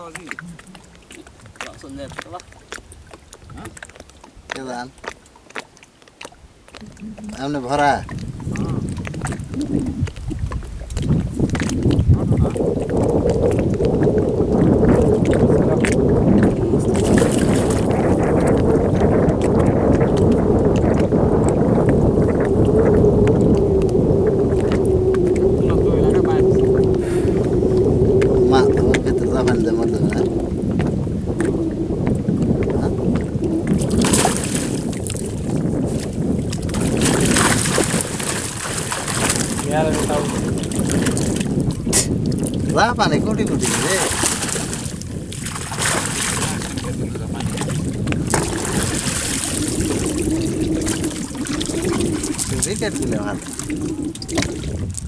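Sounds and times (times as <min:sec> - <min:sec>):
wind rumble on microphone: 0:00.0 - 0:05.6, 0:06.2 - 0:55.0
water splashing and dripping: 0:00.0 - 0:55.0.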